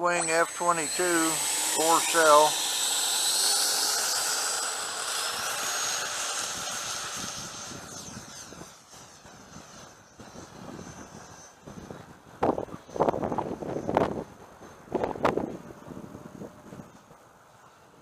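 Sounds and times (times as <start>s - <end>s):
electric ducted fan whine: 0.0s - 18.0s.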